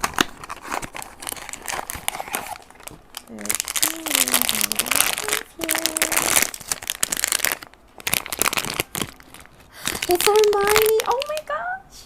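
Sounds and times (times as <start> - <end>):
plastic wrapper crinkling and tearing: 0.0 - 11.7.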